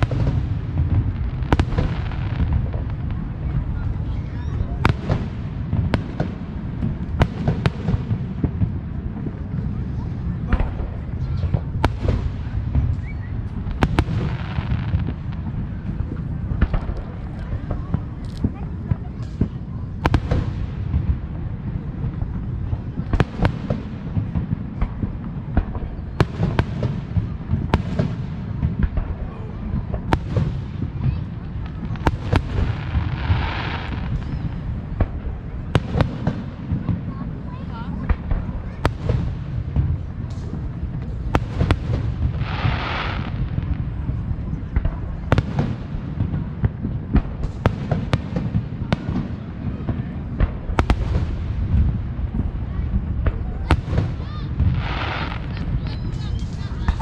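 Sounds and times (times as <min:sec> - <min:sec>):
fireworks bangs and pops: 0:00.0 - 0:57.0.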